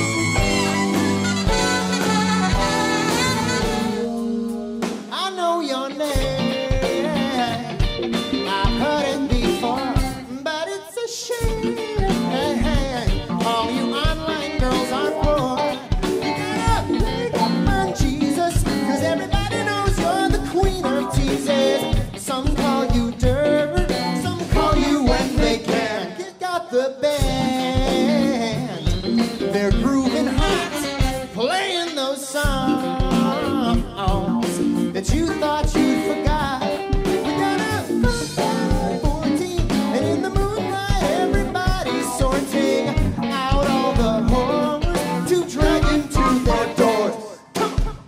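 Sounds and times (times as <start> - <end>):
lead and backing vocals: 0.0 - 48.0
live rock band: 0.0 - 48.0.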